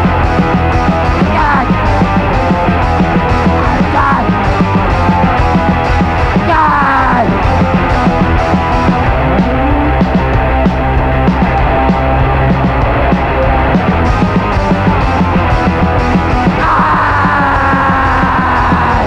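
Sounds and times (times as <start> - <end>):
loud punk band playing: 0.0 - 19.0.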